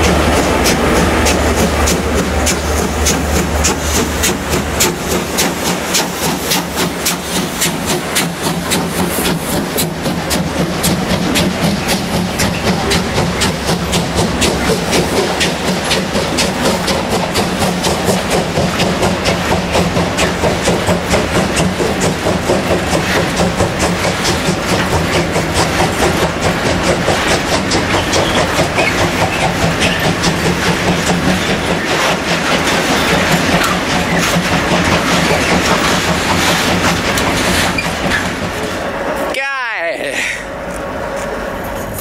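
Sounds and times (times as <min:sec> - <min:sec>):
train wheels clattering over joints: 0:00.0 - 0:39.3.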